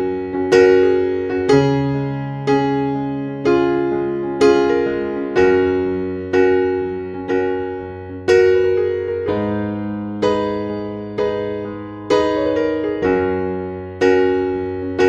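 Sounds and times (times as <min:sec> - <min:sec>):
slow solo piano chords: 0:00.0 - 0:15.0.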